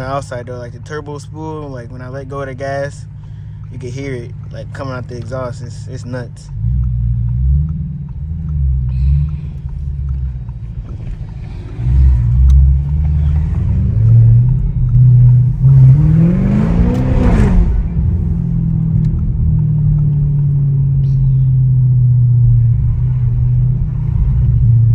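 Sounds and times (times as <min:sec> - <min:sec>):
car exhaust droning: 0:00.0 - 0:24.9
engine revving: 0:02.0 - 0:24.9.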